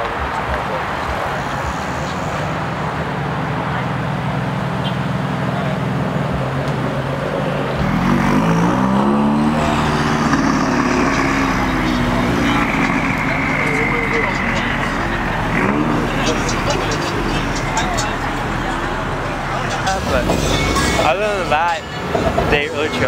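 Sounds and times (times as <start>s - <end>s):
car exhaust driving past: 1.1s - 21.5s.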